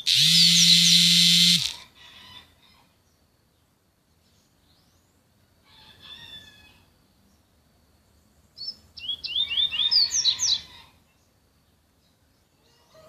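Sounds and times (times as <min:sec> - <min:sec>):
bird singing: 0:00.0 - 0:01.8, 0:02.8 - 0:05.3, 0:06.2 - 0:13.0.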